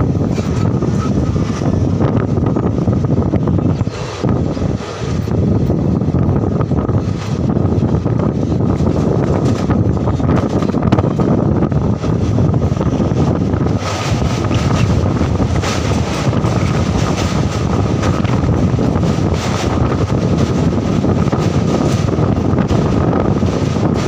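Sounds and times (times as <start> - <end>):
clatter on steel bridge: 0.0 - 24.0
train rumble: 0.0 - 24.0
wind on microphone: 0.0 - 24.0.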